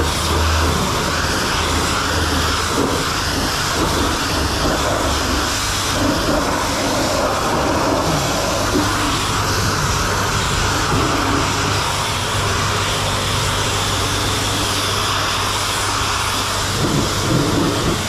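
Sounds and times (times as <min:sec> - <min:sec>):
pressure washer spray hissing: 0:00.0 - 0:18.0.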